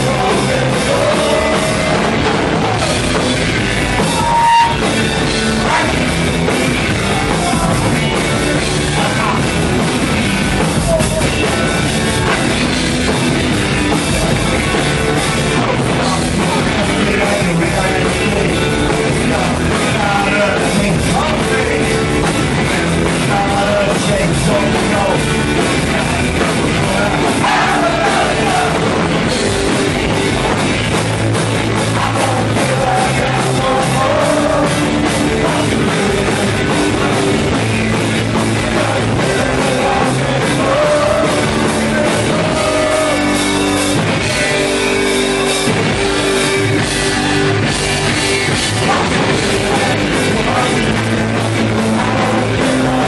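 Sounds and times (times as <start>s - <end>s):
person singing: 0.0s - 3.1s, 4.0s - 6.3s, 6.9s - 9.7s, 15.4s - 30.0s, 31.8s - 48.1s, 48.7s - 53.0s
punk rock band playing live: 0.0s - 53.0s.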